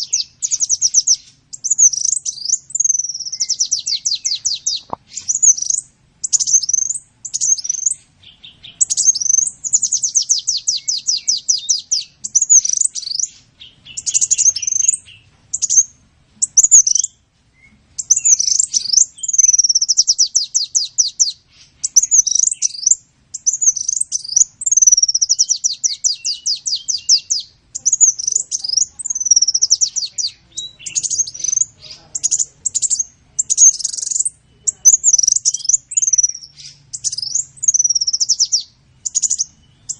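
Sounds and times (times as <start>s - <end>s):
bird trills and chirps: 0.0s - 39.9s.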